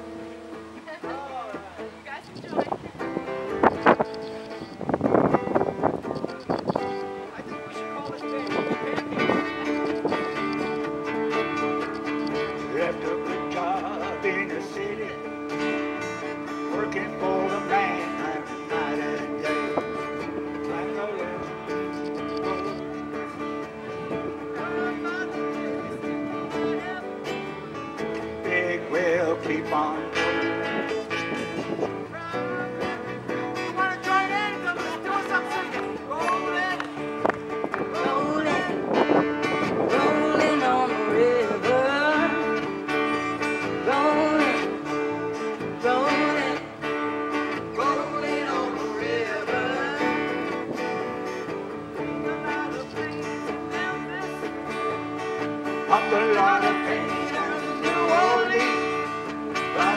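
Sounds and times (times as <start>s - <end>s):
bass guitar: 0.0s - 59.9s
electric guitar lead with bends: 0.0s - 59.9s
strummed acoustic guitars: 0.0s - 59.9s.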